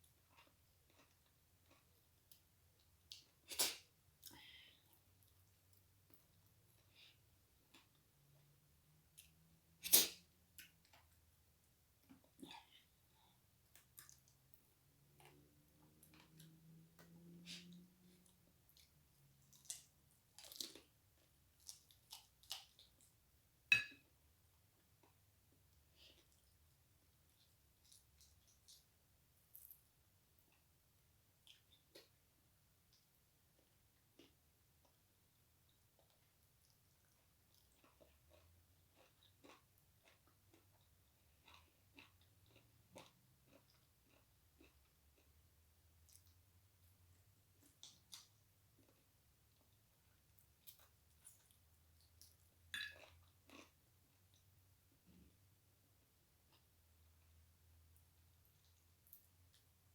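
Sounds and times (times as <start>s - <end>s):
chewing and crunching food: 0.0s - 23.3s, 24.6s - 55.4s, 56.4s - 59.9s.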